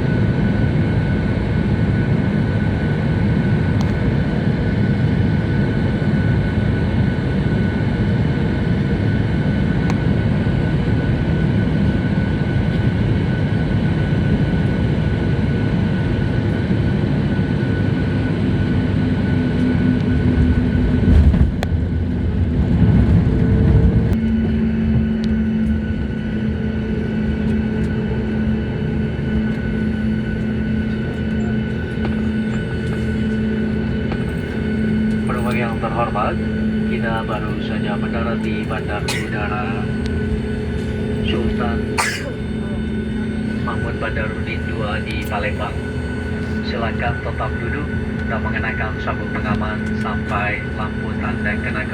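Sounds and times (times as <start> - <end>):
engines and airflow rushing: 0.0 - 51.9
humming drone: 0.0 - 51.9.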